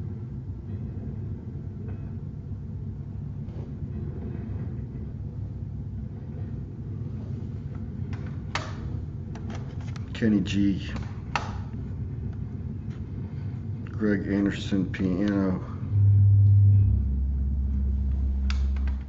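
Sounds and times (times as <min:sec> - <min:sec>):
low room rumble: 0:00.0 - 0:19.0.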